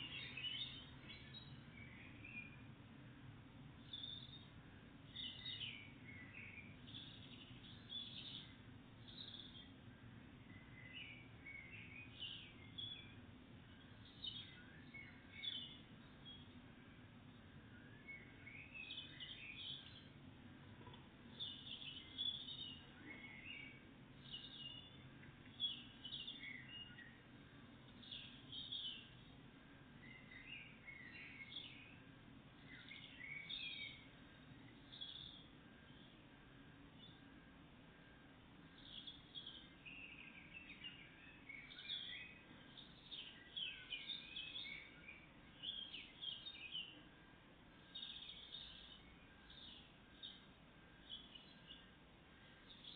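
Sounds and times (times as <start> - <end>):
faint songbirds chirping: 0.0 - 52.9
low background rumble: 0.0 - 52.9.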